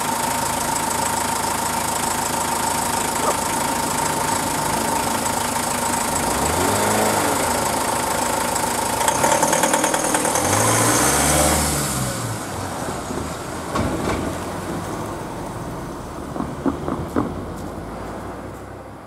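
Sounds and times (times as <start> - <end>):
van engine passing: 0.0 - 19.0
vehicles driving past: 2.7 - 19.0.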